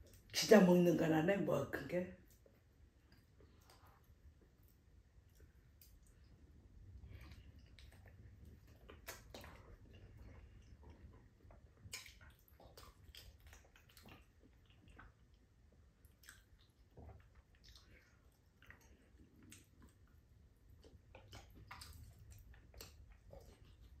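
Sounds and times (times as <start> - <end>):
lip smacks: 2.2 - 24.0
person chewing soft fruit: 2.2 - 24.0.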